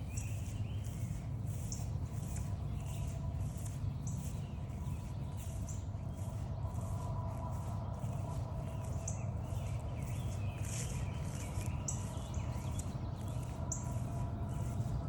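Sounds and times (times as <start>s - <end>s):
faint continuous hum: 0.0s - 15.0s
wild birds calling: 0.0s - 15.0s.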